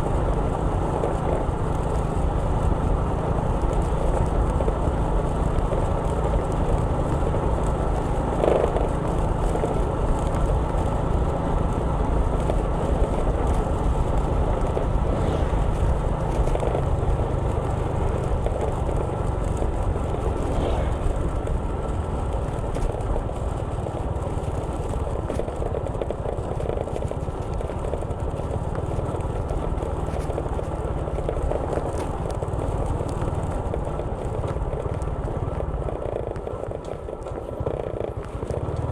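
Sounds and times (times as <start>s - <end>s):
road and wind noise: 0.0s - 38.9s
vehicle driving rumble: 0.0s - 38.9s.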